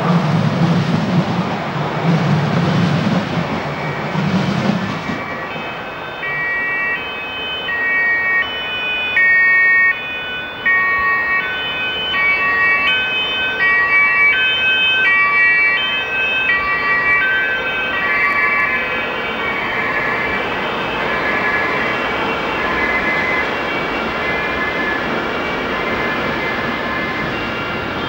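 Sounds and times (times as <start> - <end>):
siren-like tune: 2.8 - 28.0.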